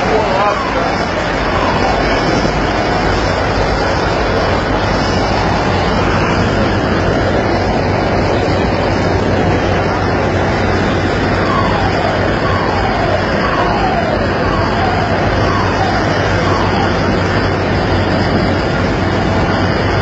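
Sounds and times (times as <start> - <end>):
rush of wind and sea: 0.0 - 20.0
ship engines humming: 0.0 - 20.0.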